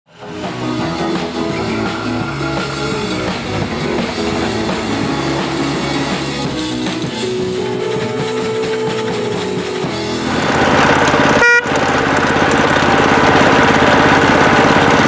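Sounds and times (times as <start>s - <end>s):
rock music with drums and guitar: 0.1s - 15.0s.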